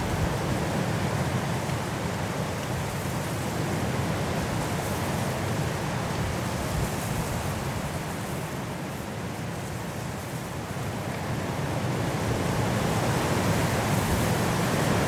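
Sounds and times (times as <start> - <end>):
strong wind through trees: 0.0 - 15.0.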